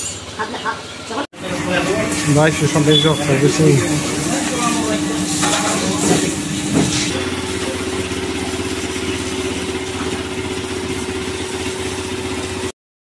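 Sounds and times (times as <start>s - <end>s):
pressure washer motor hum: 1.4s - 12.7s
water jet hissing: 1.4s - 12.7s.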